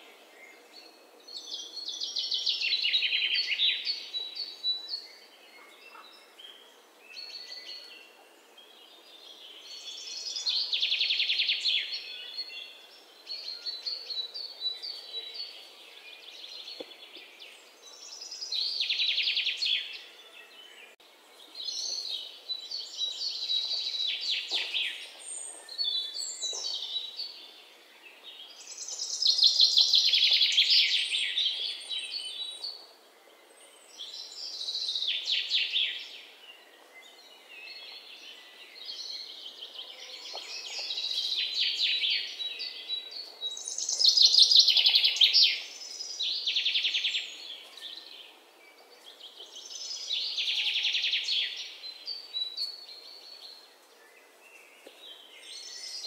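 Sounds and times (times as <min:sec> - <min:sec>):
quiet bird chirps: 0:00.0 - 0:56.0.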